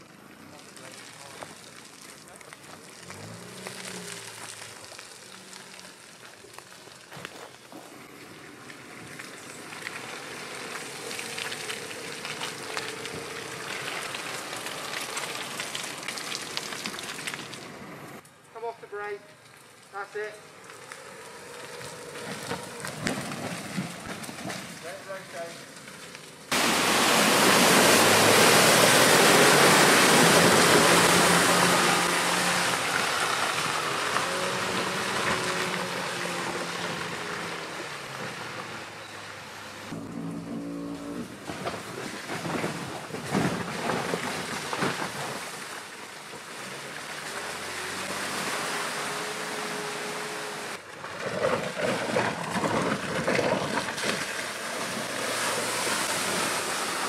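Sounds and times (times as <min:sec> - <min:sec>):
suv engine pulling: 0:00.0 - 0:57.0
tyres splashing through mud: 0:00.0 - 0:57.0.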